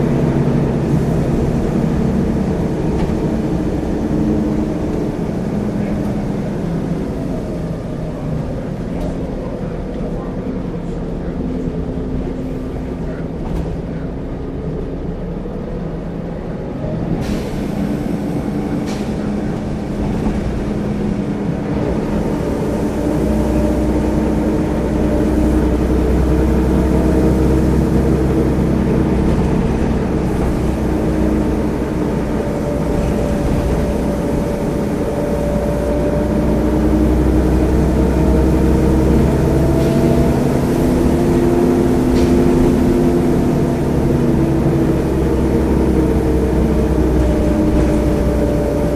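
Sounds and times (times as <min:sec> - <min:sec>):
bus engine running under load: 0:00.0 - 0:48.9.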